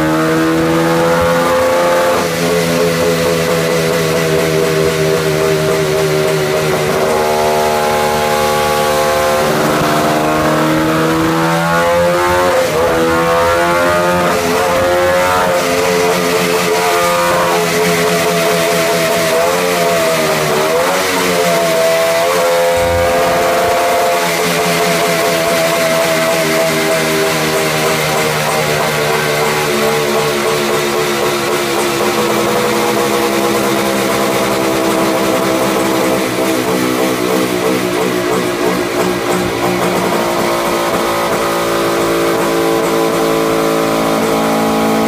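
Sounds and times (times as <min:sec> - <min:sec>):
two-stroke engine revving: 0:00.0 - 0:45.0.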